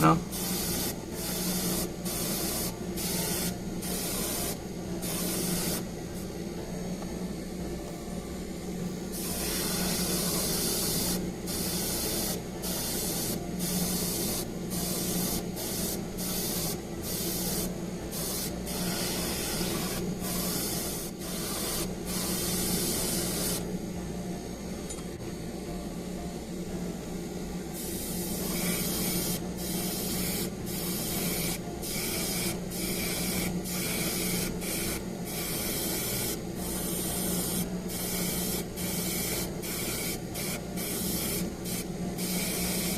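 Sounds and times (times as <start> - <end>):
airbrush spraying hiss: 0.0 - 6.3, 9.1 - 23.7, 27.8 - 42.9
compressor humming: 0.0 - 42.9.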